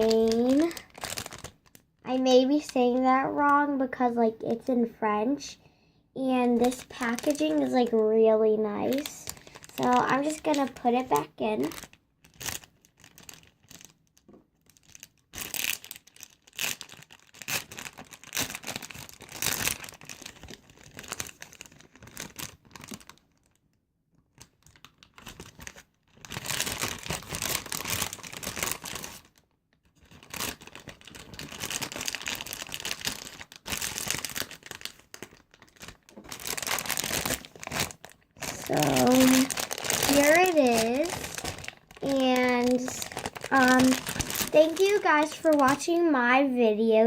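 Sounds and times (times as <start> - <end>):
plastic packaging crinkling: 0.0 - 3.6, 6.4 - 46.3.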